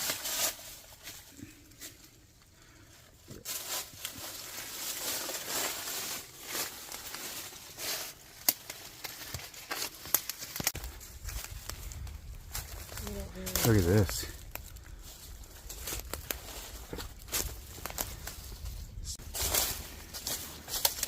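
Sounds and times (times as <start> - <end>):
footsteps in dry leaves: 0.0 - 2.2, 3.4 - 21.0.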